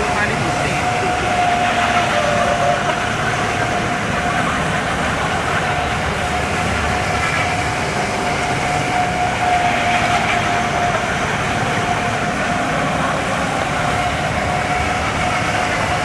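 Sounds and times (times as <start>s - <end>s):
truck engine and tyre noise: 0.0s - 16.0s.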